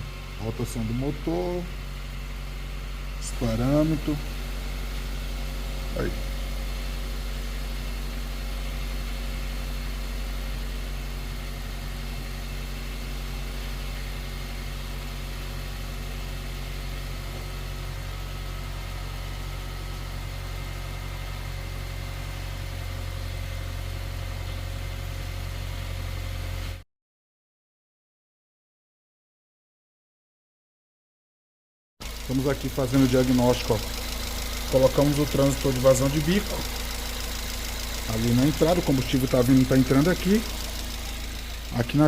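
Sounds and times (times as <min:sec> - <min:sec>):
car engine idling: 0:00.0 - 0:26.8, 0:32.0 - 0:42.0.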